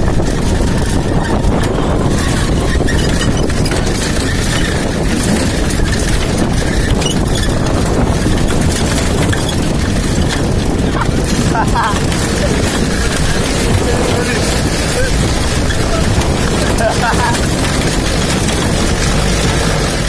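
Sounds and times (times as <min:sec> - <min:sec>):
off-road vehicle engine rumble: 0:00.0 - 0:20.0.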